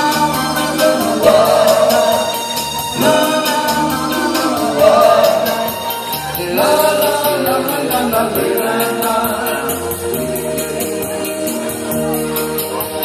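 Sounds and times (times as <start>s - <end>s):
group harmony singing: 0.0s - 11.3s
band accompaniment: 0.0s - 13.0s.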